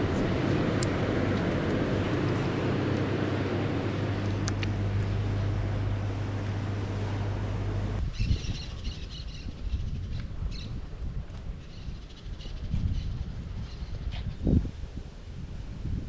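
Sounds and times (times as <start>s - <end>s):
low engine hum: 0.0s - 16.0s
wind rumble: 0.0s - 16.0s.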